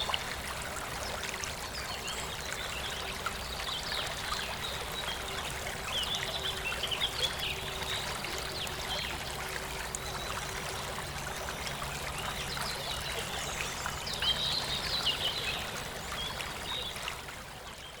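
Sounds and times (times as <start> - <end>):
stream running water: 0.0 - 18.0.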